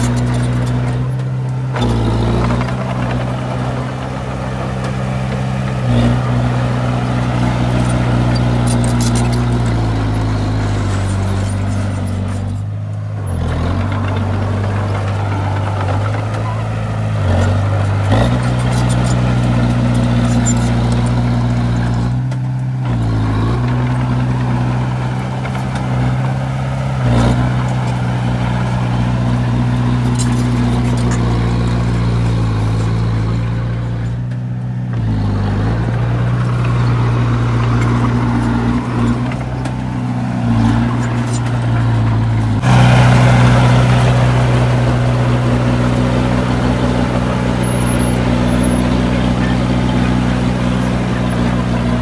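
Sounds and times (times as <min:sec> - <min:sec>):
heavy diesel engines running: 0:00.0 - 0:52.0.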